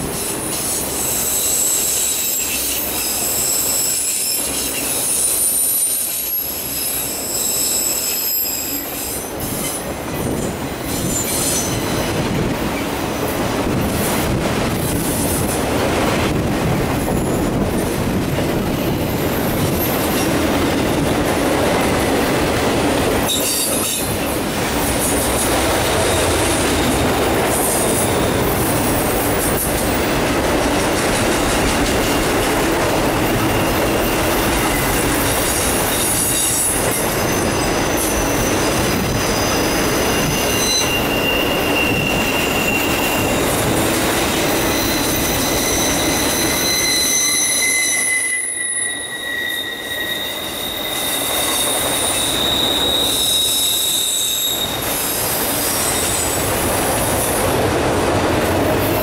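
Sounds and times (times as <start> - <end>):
train wheels squealing on rail: 0.0 - 30.2, 30.9 - 57.6
train wheels rolling on track: 0.0 - 59.0.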